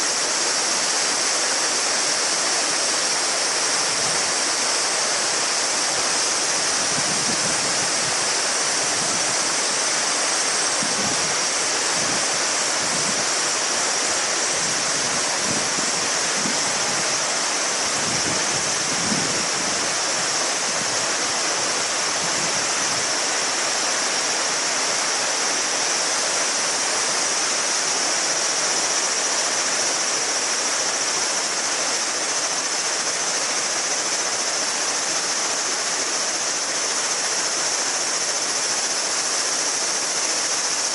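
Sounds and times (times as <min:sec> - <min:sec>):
cicadas ringing: 0:00.0 - 0:40.9
river rushing over stones: 0:00.0 - 0:40.9.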